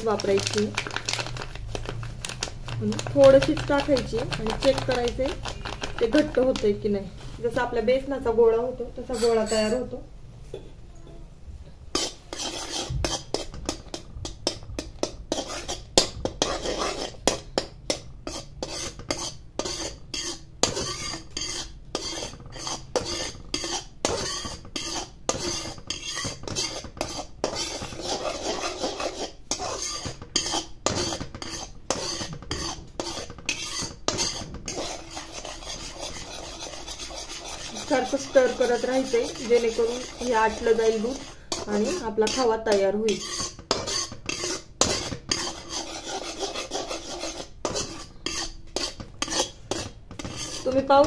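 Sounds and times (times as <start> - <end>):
metal spoon scraping a pan: 0.0 - 6.9, 9.0 - 10.0, 11.8 - 51.0.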